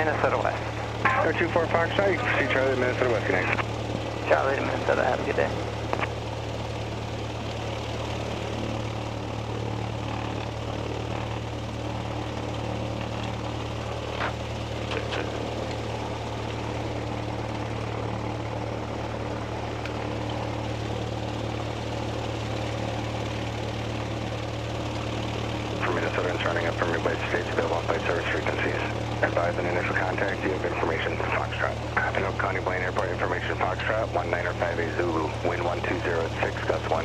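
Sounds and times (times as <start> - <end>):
light airplane engine droning: 0.0 - 37.0.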